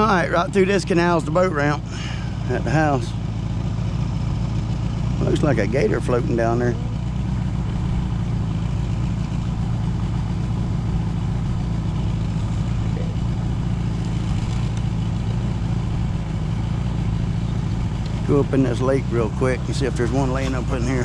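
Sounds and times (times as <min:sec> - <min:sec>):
outboard motor humming: 0:00.0 - 0:21.0.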